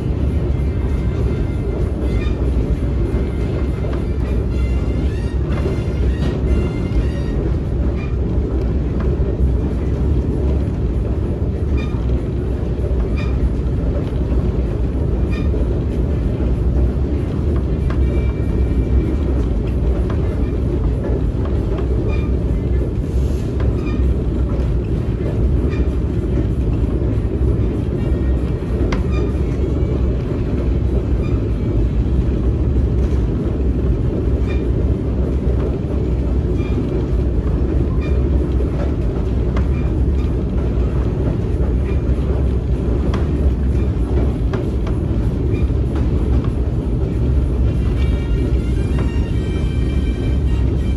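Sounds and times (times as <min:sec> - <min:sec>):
train rumble: 0:00.0 - 0:50.9
wheels clicking over rails: 0:00.0 - 0:50.9.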